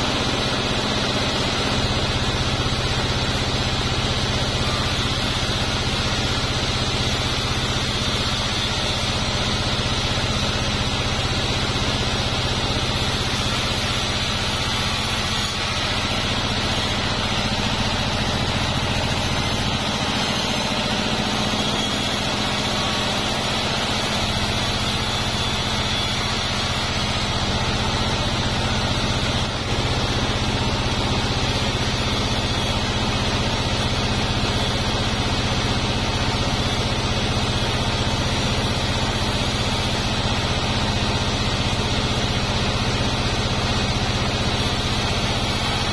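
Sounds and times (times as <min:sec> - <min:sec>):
band saw cutting wood: 0:00.0 - 0:45.9.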